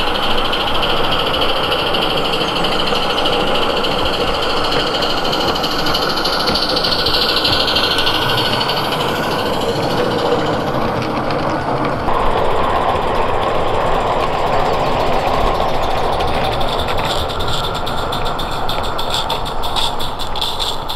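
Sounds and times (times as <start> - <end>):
steam hissing: 0.0 - 20.9
wheels running on track: 0.0 - 20.9.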